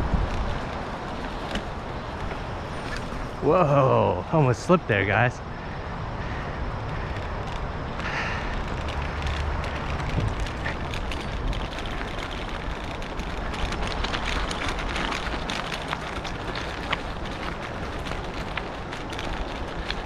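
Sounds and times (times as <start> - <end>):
bicycle tyres crunching on gravel: 0.0 - 20.0.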